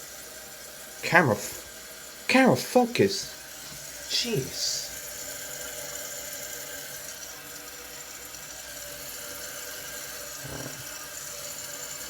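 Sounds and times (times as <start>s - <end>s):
toilet tank refilling: 0.0s - 12.0s.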